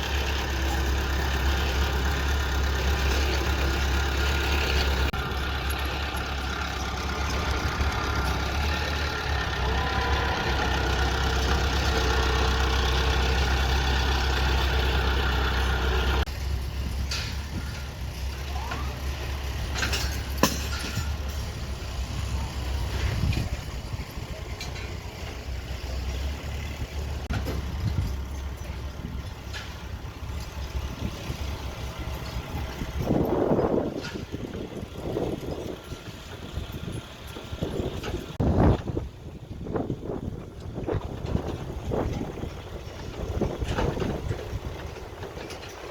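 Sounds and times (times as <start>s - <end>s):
heavy machine engine running: 0.0s - 45.9s.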